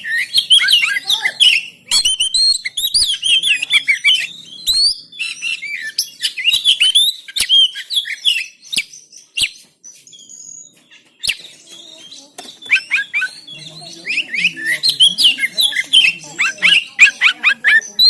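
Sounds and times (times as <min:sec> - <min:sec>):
bird singing whistled notes: 0:00.0 - 0:18.0.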